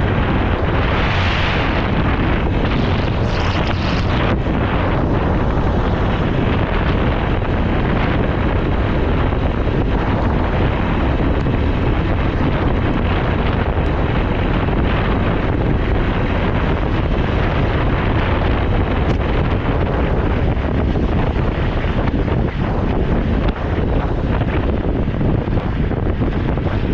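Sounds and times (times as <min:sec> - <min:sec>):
motorcycle engine and road noise: 0:00.0 - 0:26.9
wind buffeting microphone: 0:00.0 - 0:26.9.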